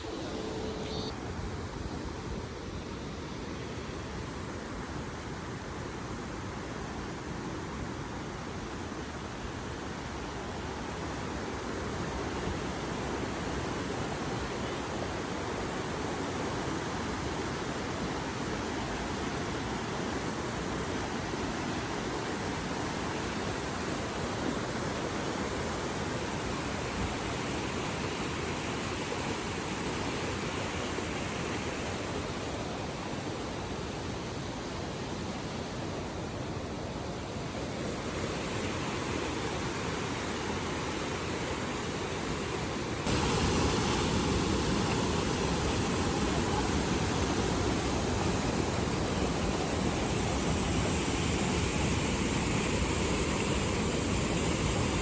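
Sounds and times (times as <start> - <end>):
fast-flowing water rushing: 0.0 - 55.0.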